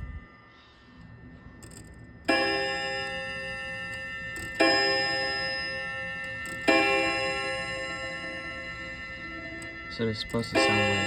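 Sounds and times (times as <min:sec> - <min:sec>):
clock chime striking: 0:00.0 - 0:11.0
faint clock clicks: 0:00.9 - 0:11.0.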